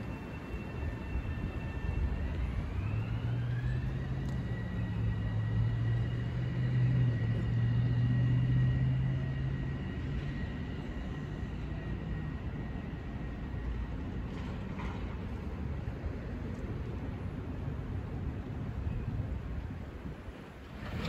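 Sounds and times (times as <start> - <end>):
train hum and rumble: 0.0 - 21.0.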